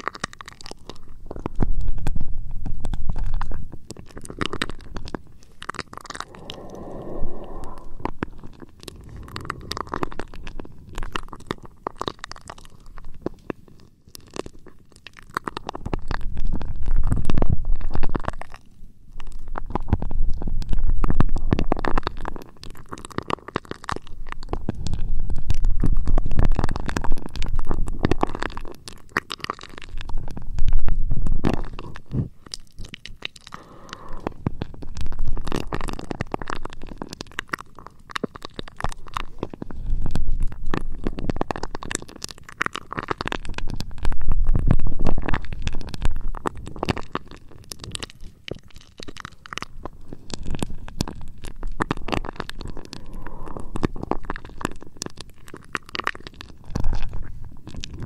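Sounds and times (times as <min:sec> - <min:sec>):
rubbing and scratching on microphone: 0:00.0 - 0:14.8, 0:15.4 - 0:18.6, 0:19.2 - 0:58.0.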